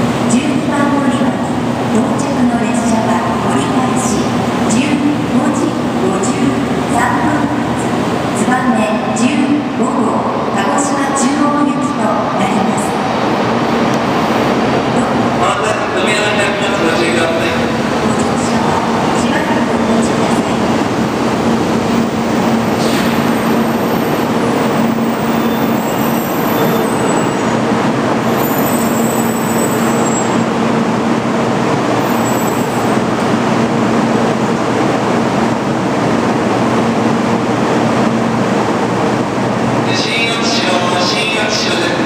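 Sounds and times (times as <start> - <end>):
standing train humming: 0.0 - 42.0.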